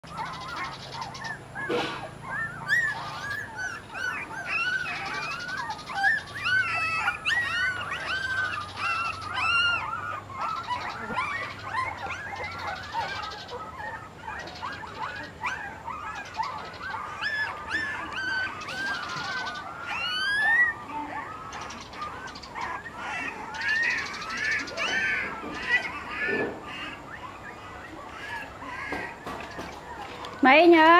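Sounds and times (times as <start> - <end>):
puppies whimpering and squealing: 0.0 - 30.9.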